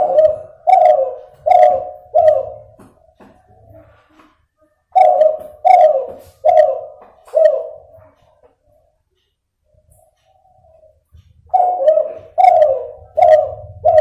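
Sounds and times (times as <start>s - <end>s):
dove cooing: 0.0s - 9.0s, 10.3s - 14.0s.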